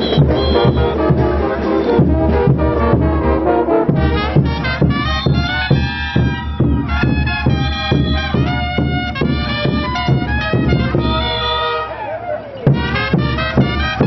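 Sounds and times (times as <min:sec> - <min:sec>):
drum beating: 0:00.0 - 0:14.0
folk wind ensemble melody: 0:00.0 - 0:14.0.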